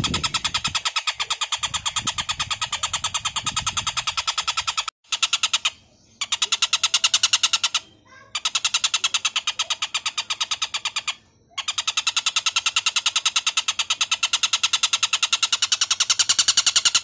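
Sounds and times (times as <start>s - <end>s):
bird rasping chatter: 0.0s - 17.0s.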